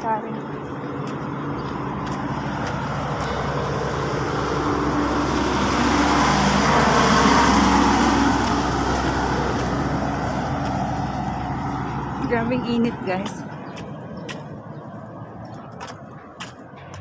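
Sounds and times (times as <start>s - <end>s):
truck passing: 0.0s - 17.0s.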